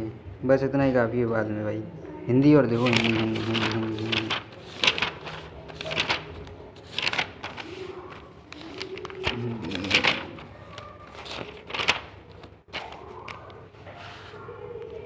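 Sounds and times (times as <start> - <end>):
paper pages turning: 2.7 - 15.0.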